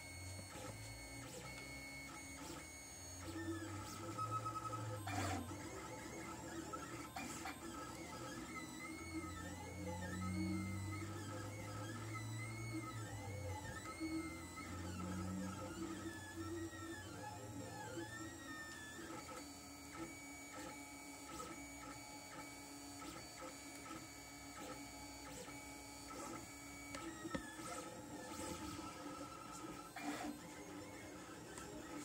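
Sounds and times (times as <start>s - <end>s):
stepper motors whining: 0.0s - 32.0s.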